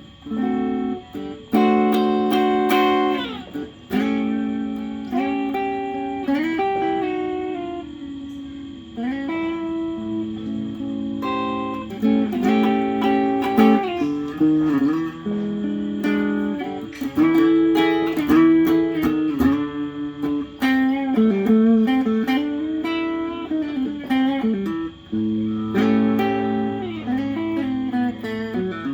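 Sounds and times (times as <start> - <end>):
electric guitar playing: 0.0 - 28.9.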